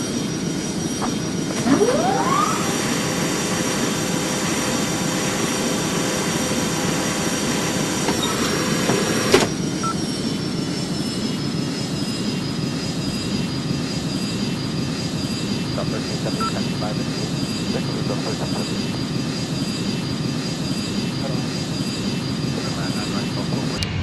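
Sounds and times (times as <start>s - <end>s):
high whine: 0.0s - 24.0s
jet engines running: 0.0s - 24.0s.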